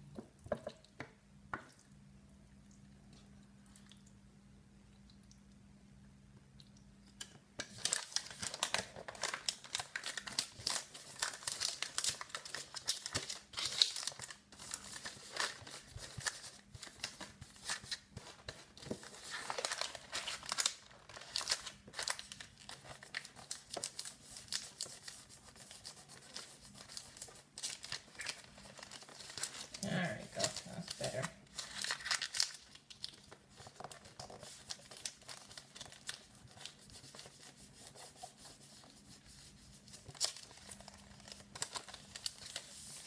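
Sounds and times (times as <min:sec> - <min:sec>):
paper crinkling and rustling: 0:07.2 - 0:43.0.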